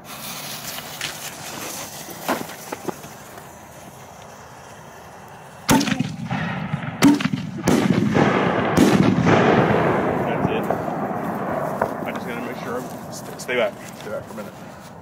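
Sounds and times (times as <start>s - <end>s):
firework bangs: 0.0s - 14.3s
firework hiss: 0.0s - 14.6s.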